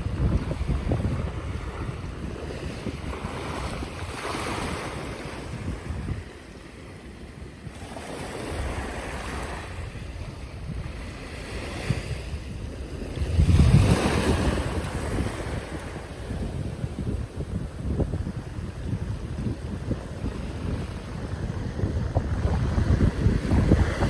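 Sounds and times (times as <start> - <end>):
sea waves washing: 0.0 - 24.0
wind buffeting microphone: 0.0 - 24.0.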